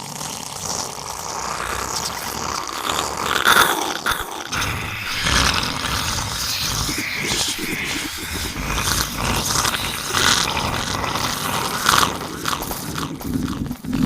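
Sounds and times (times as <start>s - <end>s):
gritty rasping demonic ambience: 0.0s - 14.0s.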